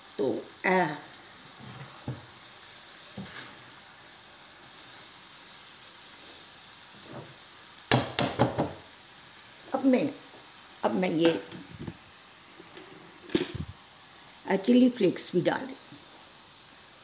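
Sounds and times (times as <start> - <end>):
lentils sizzling in a wok: 0.0 - 17.0.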